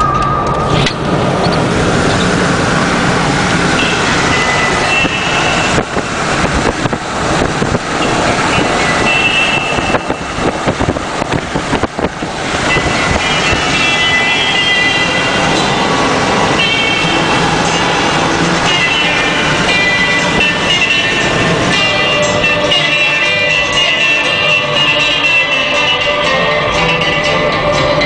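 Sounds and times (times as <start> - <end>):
car road and wind noise: 0.0 - 28.0.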